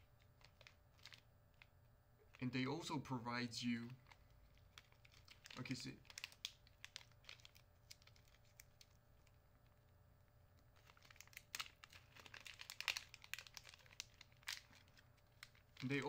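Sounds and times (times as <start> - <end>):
plastic packaging clicks and crinkles: 0.0 - 2.4, 3.8 - 16.0.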